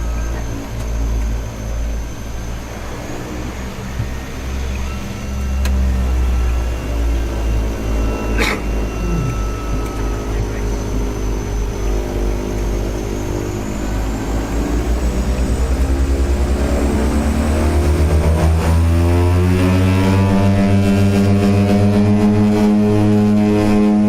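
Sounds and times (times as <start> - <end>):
propeller engines droning: 0.0 - 24.0.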